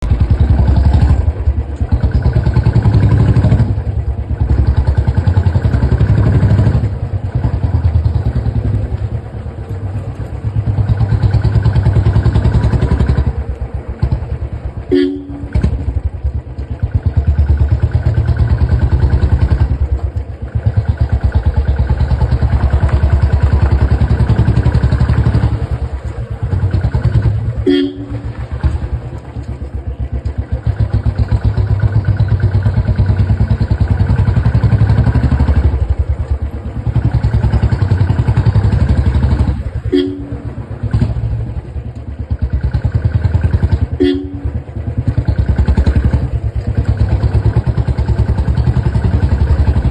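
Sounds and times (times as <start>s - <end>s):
motorcycle exhaust revving: 0.0s - 49.9s.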